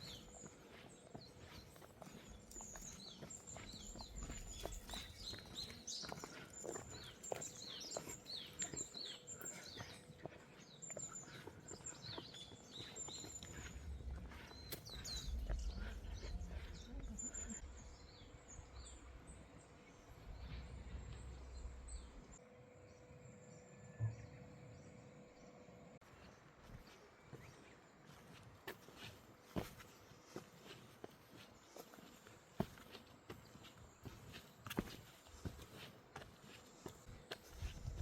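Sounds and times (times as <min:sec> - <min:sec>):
wild birds chirping: 0:00.0 - 0:38.0.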